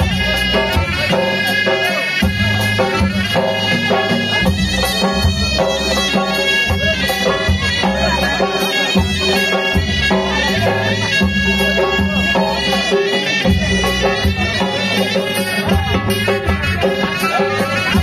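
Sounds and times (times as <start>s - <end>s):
reedy wind instrument melody: 0.0s - 18.0s
regular drum beat: 0.0s - 18.0s.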